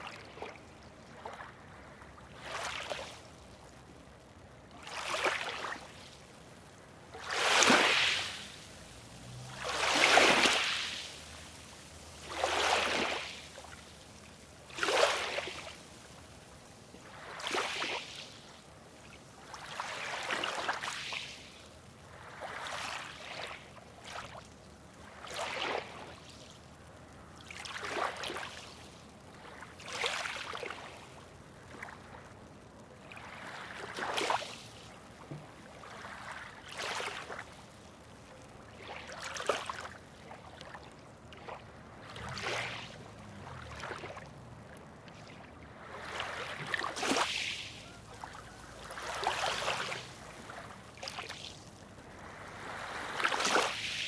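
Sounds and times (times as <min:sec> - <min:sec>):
background water wash: 0:00.0 - 0:54.0
small waves splashing: 0:00.0 - 0:54.0.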